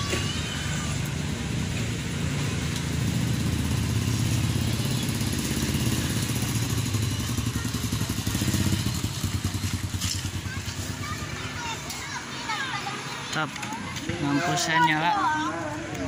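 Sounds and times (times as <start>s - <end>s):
small motorcycle engine rumble: 0.0s - 16.0s.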